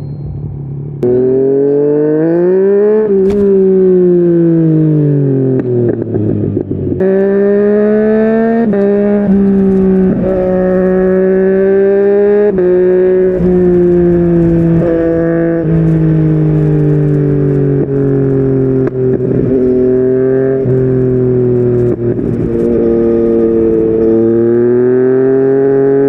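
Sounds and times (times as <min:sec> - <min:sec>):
motorcycle engine revving: 0:00.4 - 0:26.0.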